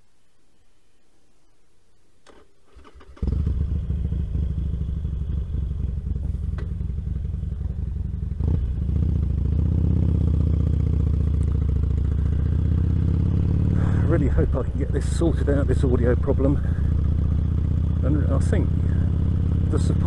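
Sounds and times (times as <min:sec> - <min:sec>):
motorcycle engine riding off: 0:02.3 - 0:20.0.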